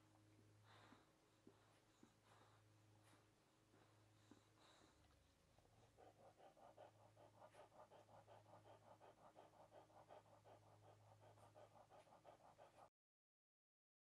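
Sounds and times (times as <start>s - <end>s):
steady low hum: 0.0s - 12.9s
puppy breathing and sniffing: 0.6s - 12.9s.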